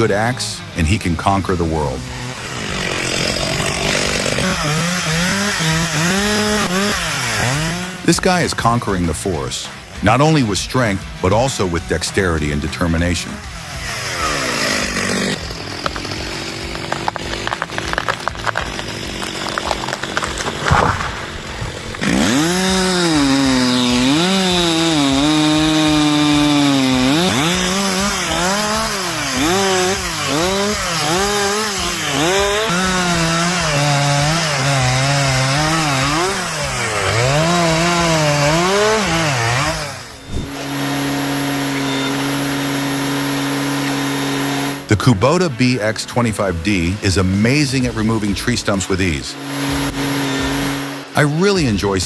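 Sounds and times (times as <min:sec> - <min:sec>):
chainsaw cutting wood: 0:00.0 - 0:52.0
steady engine hum: 0:00.0 - 0:52.0.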